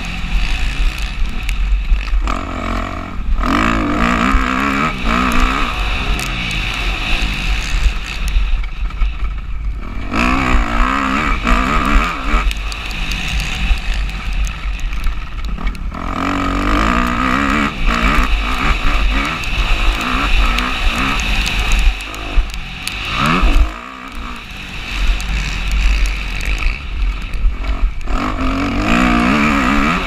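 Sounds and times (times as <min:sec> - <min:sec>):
motocross bike engine revving: 0:00.0 - 0:30.0
wind rumble on microphone: 0:00.0 - 0:30.0.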